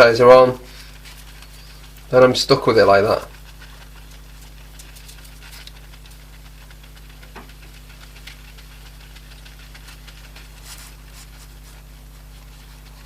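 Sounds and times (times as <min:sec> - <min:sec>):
cloth rubbing on glass screen: 0:00.0 - 0:13.0
low electrical hum: 0:00.0 - 0:13.0.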